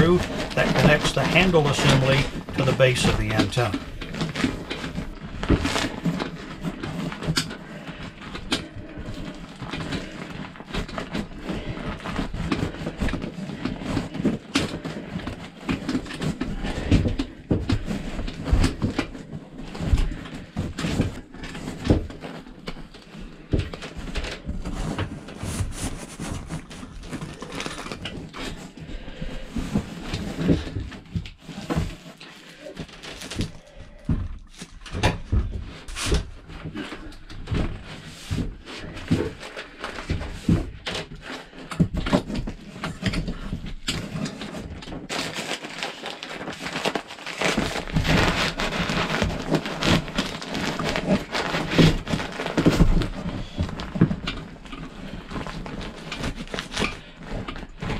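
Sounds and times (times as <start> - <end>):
paper insulation rustling: 0.0 - 57.9.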